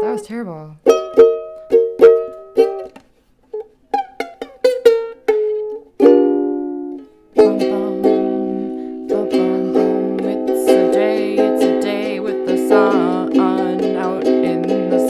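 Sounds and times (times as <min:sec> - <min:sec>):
ukulele picked notes and strumming: 0:00.8 - 0:15.0.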